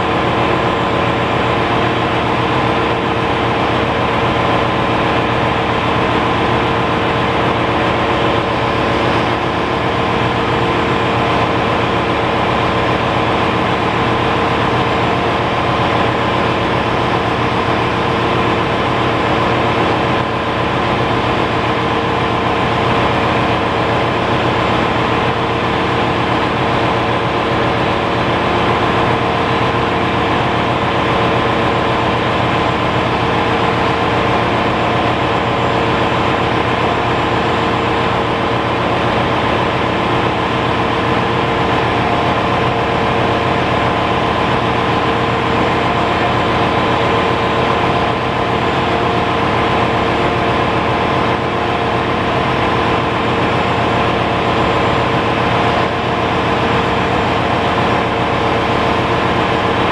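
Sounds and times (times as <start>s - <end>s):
engine room machinery drone: 0.0s - 59.9s.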